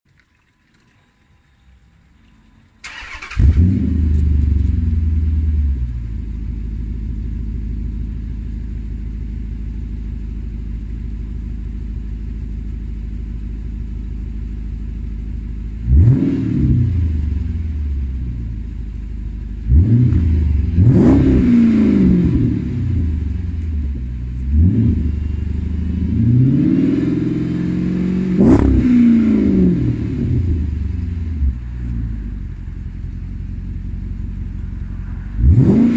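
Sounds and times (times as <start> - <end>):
car engine idling and revving: 2.5 - 35.9.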